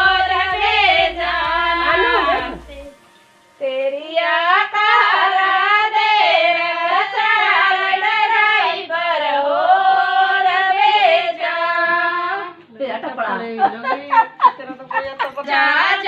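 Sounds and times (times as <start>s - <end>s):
women singing unaccompanied: 0.0s - 3.0s, 3.6s - 16.0s.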